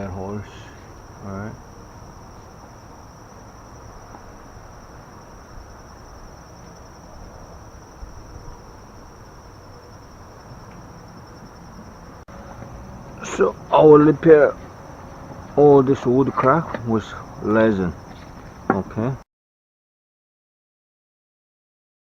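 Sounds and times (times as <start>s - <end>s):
crickets trilling: 0.0s - 19.2s.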